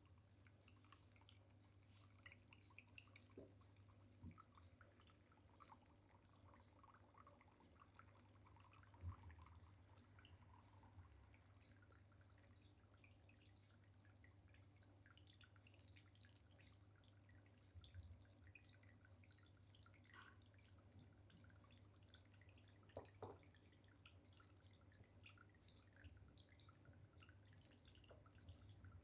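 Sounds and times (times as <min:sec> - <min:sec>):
fountain water dripping and trickling: 0:00.0 - 0:29.0.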